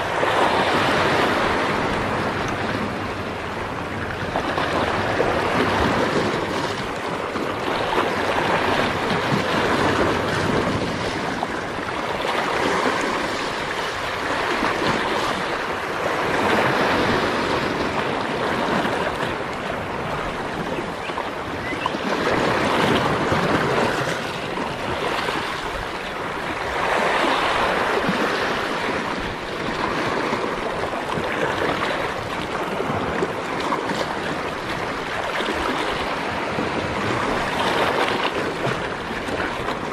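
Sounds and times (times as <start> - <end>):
waves washing against rocks: 0.0 - 39.9.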